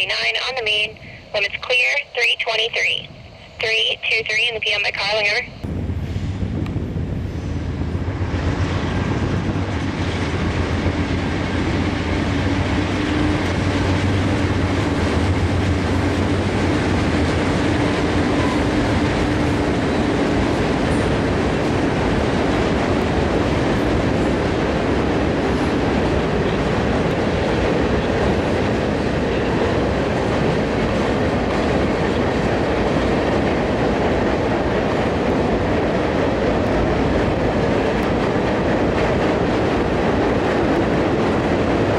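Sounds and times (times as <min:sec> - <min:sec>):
diesel locomotive engine drone: 0:00.0 - 0:41.9
freight cars rumbling on rails: 0:05.2 - 0:41.9.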